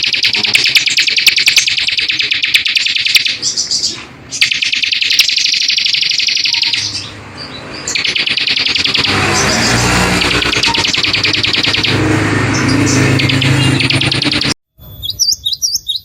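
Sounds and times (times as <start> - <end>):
songbird trilling: 0.0 - 16.0.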